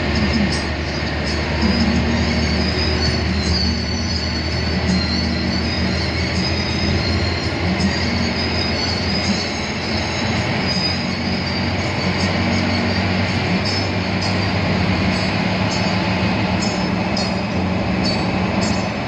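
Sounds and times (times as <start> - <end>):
bus engine and road drone: 0.0 - 19.0
high-pitched squeals: 0.0 - 19.0.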